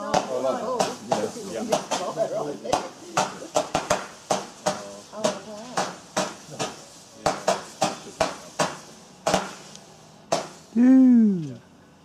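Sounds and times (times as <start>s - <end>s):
firework bangs: 0.0s - 10.8s.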